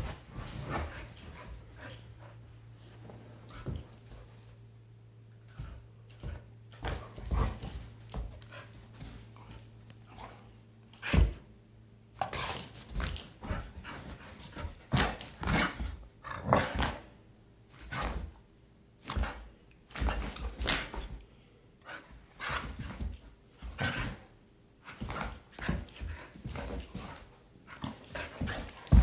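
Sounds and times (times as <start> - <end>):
dogs play-fighting and barking: 0.0 - 11.4, 12.2 - 17.2, 21.8 - 29.0.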